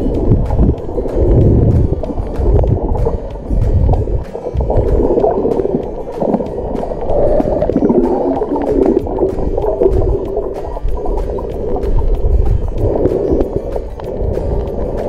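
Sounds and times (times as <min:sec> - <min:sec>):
underwater gurgling and bubbling: 0:00.0 - 0:15.0.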